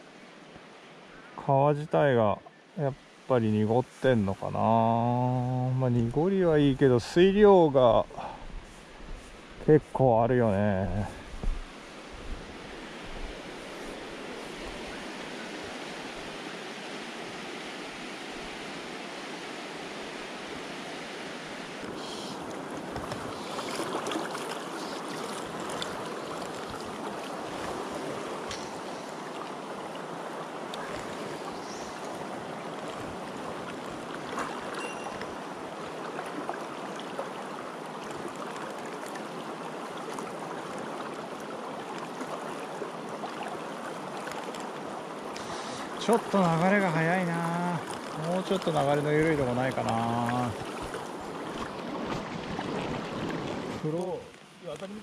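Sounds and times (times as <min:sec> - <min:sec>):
river rushing: 0:00.0 - 0:54.8.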